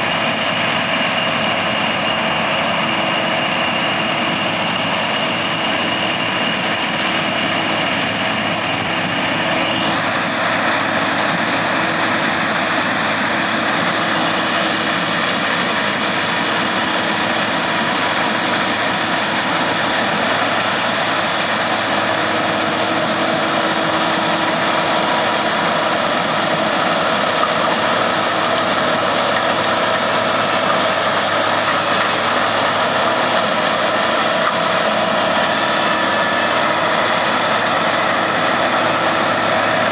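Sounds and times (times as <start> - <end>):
combine harvester engine drone: 0.0 - 39.9
high whine: 0.0 - 39.9.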